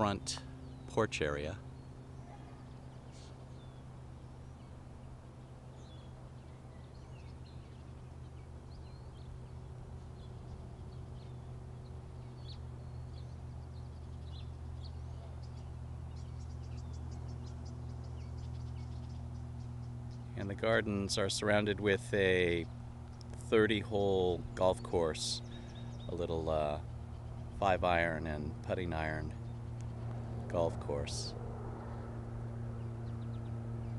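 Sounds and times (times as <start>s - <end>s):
birds chirping: 0.0s - 33.9s
steady low hum: 0.0s - 33.9s.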